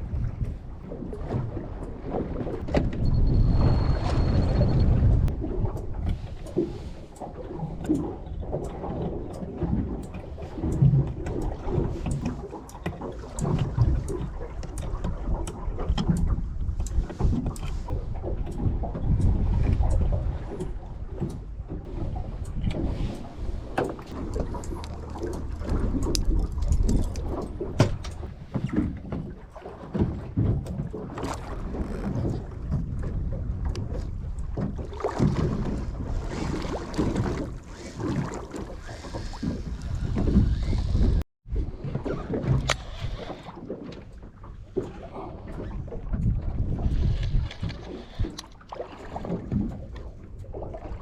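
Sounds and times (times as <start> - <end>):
water and wind against hull: 0.0 - 51.0.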